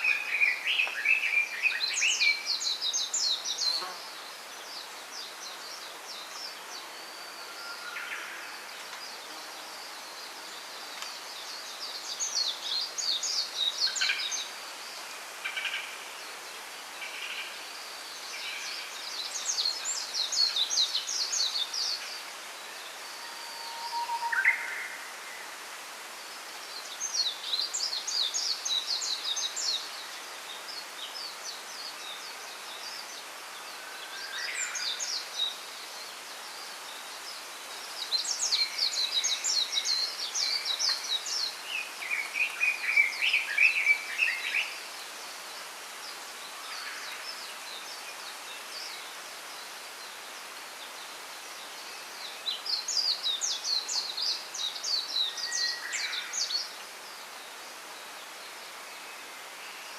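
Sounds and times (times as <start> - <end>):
small birds chirping: 0.0 - 7.6, 8.2 - 23.1, 24.3 - 59.9
steady background hiss: 0.0 - 59.9.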